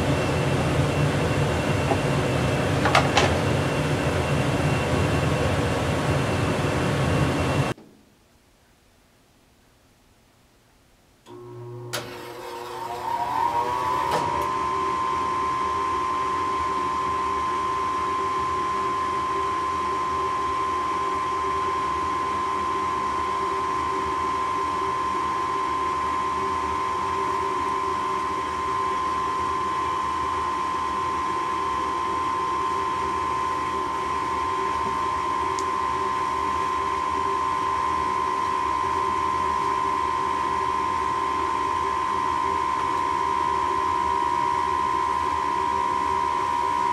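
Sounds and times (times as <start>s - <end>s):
furnace whine: 0.0s - 7.8s, 11.2s - 46.9s.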